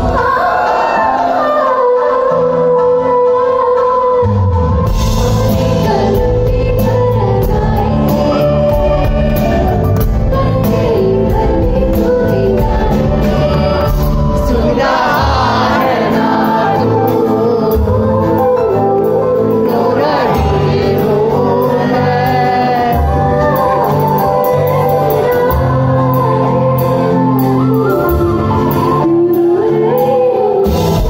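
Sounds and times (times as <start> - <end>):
woman singing into a microphone: 0.0 - 31.0
band on keyboards and drums: 2.5 - 31.0.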